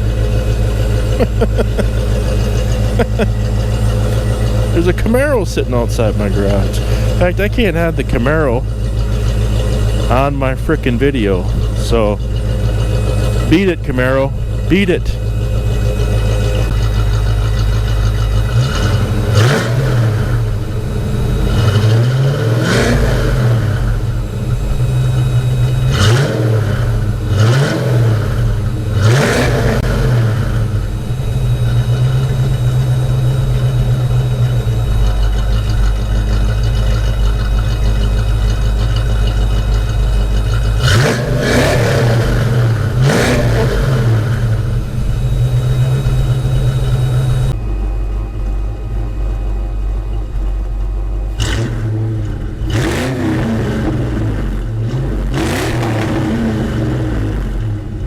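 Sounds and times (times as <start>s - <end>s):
car engine idling: 0.0s - 58.0s
engine throttle blips: 0.0s - 58.0s.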